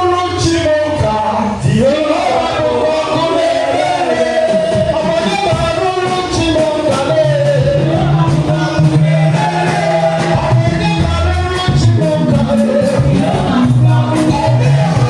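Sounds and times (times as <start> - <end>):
held bass notes: 0.0 - 15.0
singing with instrumental music: 0.0 - 15.0.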